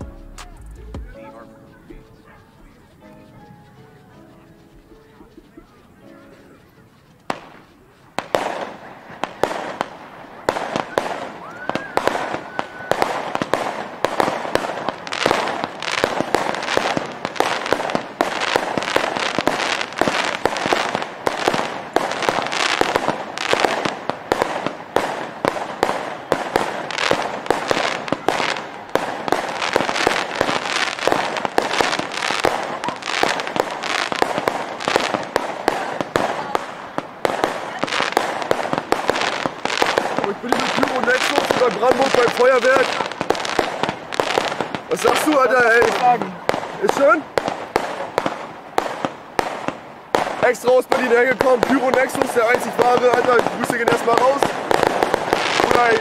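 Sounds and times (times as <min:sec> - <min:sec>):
fireworks bangs and crackling: 0:00.0 - 0:03.6, 0:04.7 - 0:56.0.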